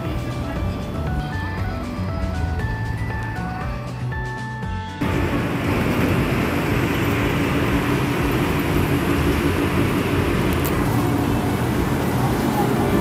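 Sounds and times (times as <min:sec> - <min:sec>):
continuous hum: 0:00.0 - 0:13.0
station concourse noise: 0:00.0 - 0:13.0.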